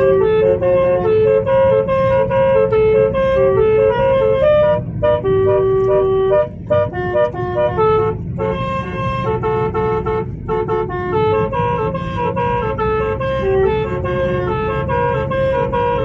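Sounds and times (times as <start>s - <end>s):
air horn playing a tune: 0.0s - 16.0s.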